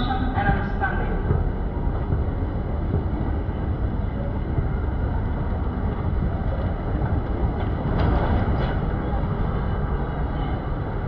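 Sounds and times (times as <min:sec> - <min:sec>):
escalator rumbling: 0:00.0 - 0:11.0
indoor hall hum: 0:00.0 - 0:11.0.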